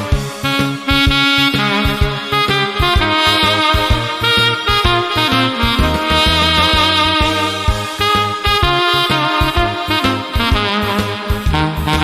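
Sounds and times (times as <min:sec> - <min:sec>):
alto saxophone long note: 0:00.0 - 0:12.0
trot backing track: 0:00.0 - 0:12.0.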